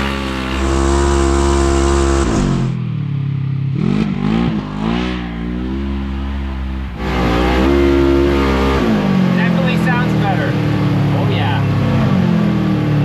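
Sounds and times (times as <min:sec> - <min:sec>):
engine revving: 0:00.0 - 0:02.9, 0:03.6 - 0:13.0.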